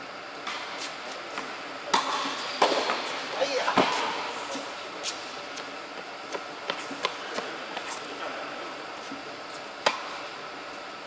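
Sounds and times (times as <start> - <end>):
steady hall hum: 0.0 - 11.0
tennis balls hitting rackets: 0.4 - 8.3, 9.0 - 10.5.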